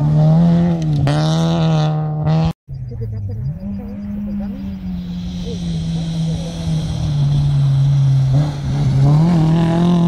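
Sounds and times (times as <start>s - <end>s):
rally car engine passing: 0.0s - 10.0s.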